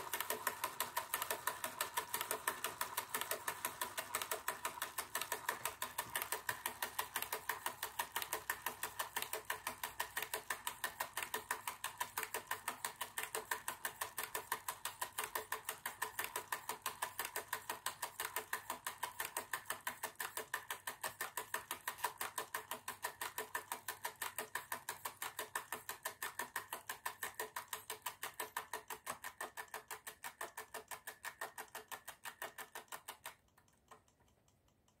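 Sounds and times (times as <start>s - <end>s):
tachograph mechanism ticking: 0.0s - 35.0s.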